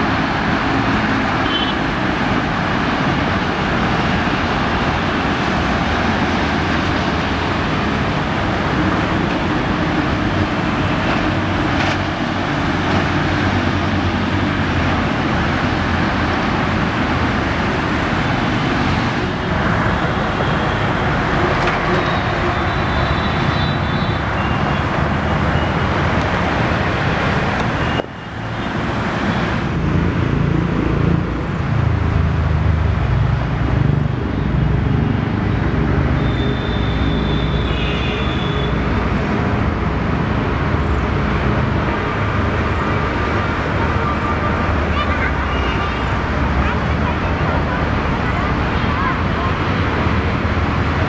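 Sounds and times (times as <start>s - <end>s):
road traffic noise: 0.0s - 51.0s.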